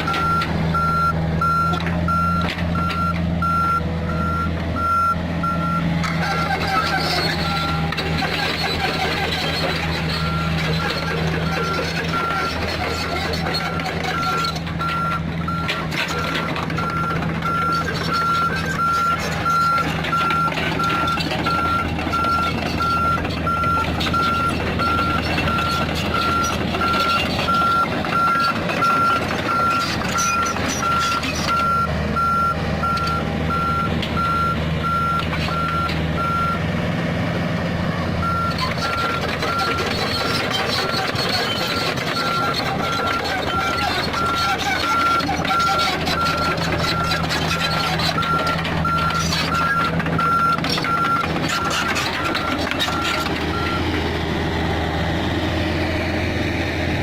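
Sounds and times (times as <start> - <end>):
reversing alarm beeping: 0.0 - 36.6, 38.2 - 54.1
diesel engine running: 0.0 - 57.0.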